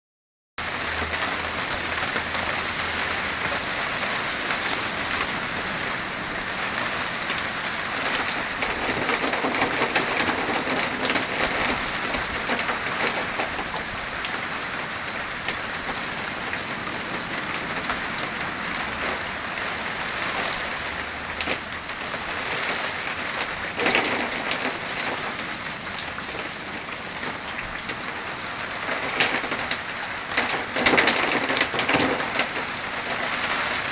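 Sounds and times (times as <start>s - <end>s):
raindrops ticking: 0.6s - 3.8s, 4.4s - 33.9s
steady rain hiss: 0.6s - 33.9s.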